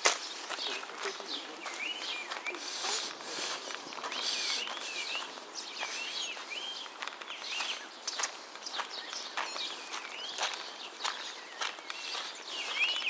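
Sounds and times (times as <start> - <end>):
footsteps: 0.0 - 13.0
birds whistling calls: 0.1 - 13.0.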